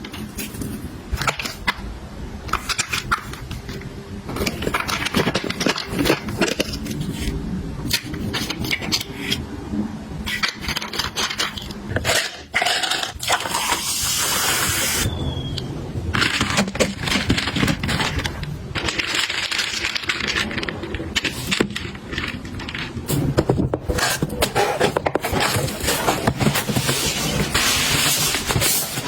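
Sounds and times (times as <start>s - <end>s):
objects clicking tapping and scraping: 2.5s - 9.4s, 10.2s - 13.9s, 16.1s - 29.0s.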